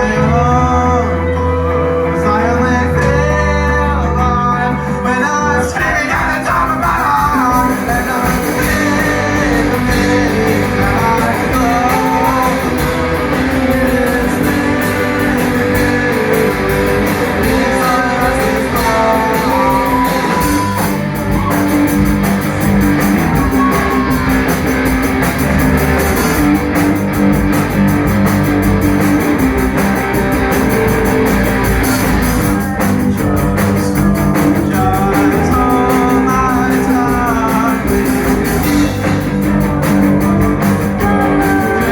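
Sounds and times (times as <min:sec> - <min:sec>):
drums: 0:00.0 - 0:41.9
electric guitar: 0:00.0 - 0:41.9
live rock band playing: 0:00.0 - 0:41.9.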